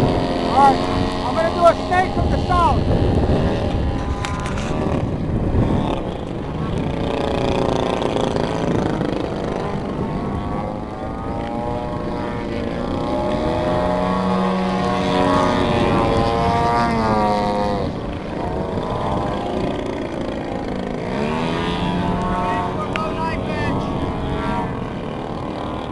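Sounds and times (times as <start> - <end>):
model plane gasoline engine: 0.0 - 25.9.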